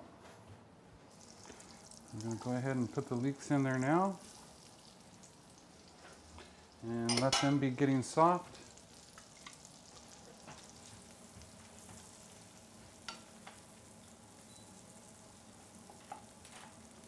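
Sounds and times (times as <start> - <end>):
leeks sizzling in butter: 1.1 - 17.0.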